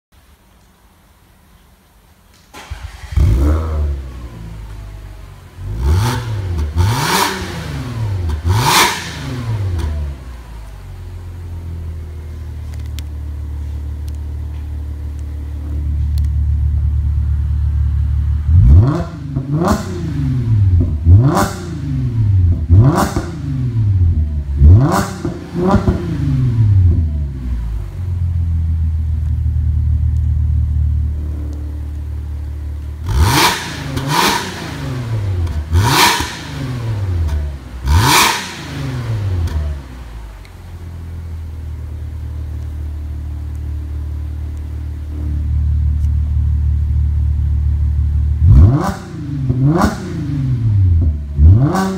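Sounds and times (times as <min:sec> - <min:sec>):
car engine revving: 0:02.6 - 0:13.1, 0:14.1 - 0:41.2, 0:41.8 - 0:51.9.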